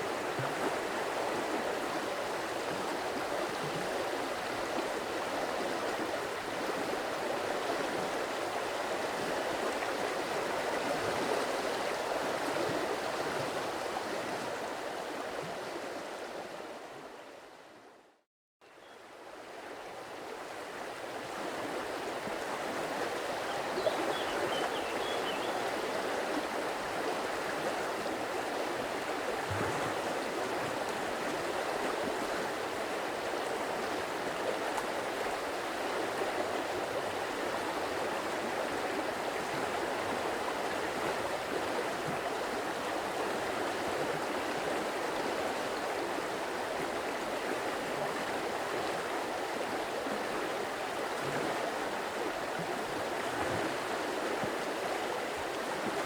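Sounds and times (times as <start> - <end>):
stream water flowing: 0.0 - 17.8, 18.6 - 56.0.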